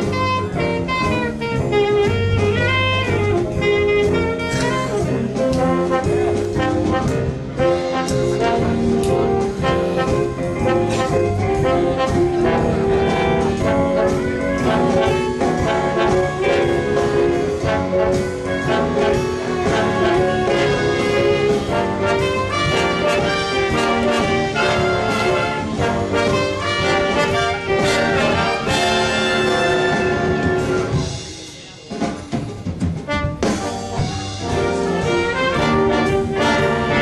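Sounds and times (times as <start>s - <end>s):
brass band playing jazz: 0.0s - 37.0s
drums keeping a beat: 0.0s - 37.0s.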